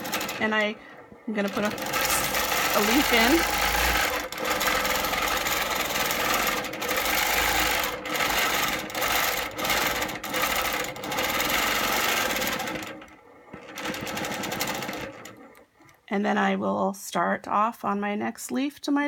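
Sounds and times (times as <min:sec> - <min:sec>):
quilting machine stitching: 0:00.0 - 0:15.9.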